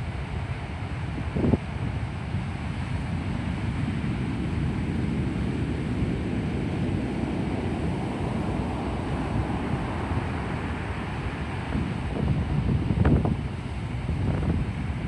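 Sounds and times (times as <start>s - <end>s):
wind buffeting microphone: 0.0s - 15.0s
heavy surf on gravel beach: 2.3s - 15.0s.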